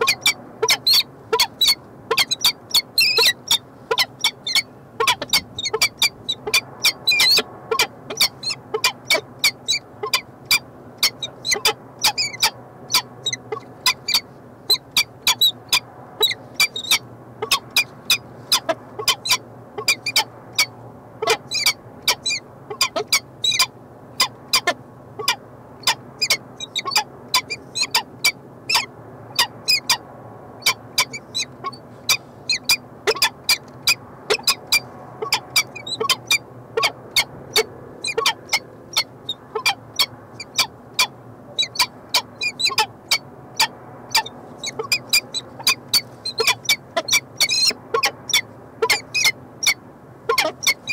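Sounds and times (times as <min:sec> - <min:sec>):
falcons calling: 0:00.0 - 0:30.0, 0:34.3 - 0:50.9.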